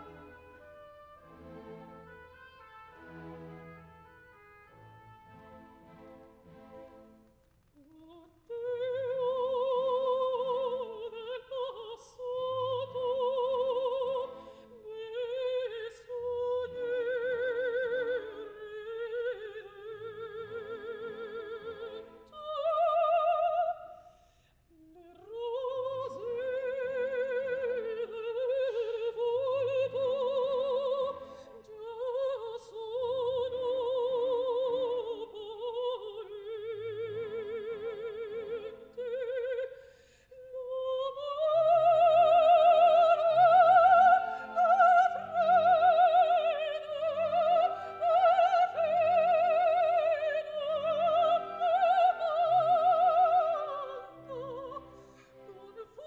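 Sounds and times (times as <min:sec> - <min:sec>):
soft orchestral accompaniment: 0:00.0 - 0:24.1, 0:24.8 - 0:56.0
woman singing opera: 0:07.8 - 0:24.1, 0:24.7 - 0:56.0.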